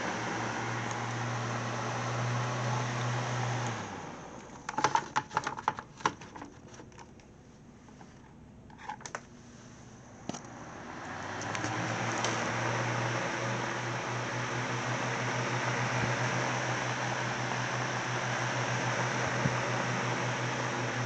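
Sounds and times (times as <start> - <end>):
desk fan motor hum and air: 0.0 - 21.0.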